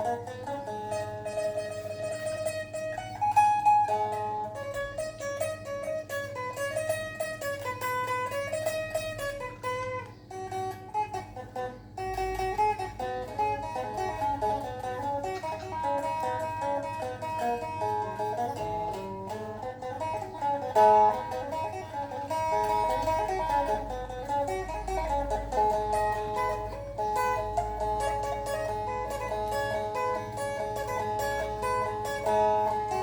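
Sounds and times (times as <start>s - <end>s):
plucked lute melody: 0.0s - 33.0s.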